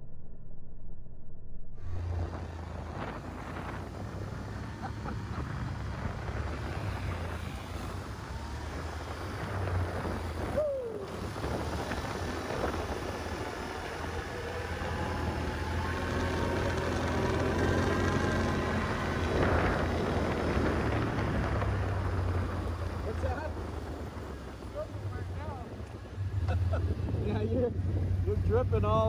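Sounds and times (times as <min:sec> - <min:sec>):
quad engine running: 0:01.8 - 0:29.0.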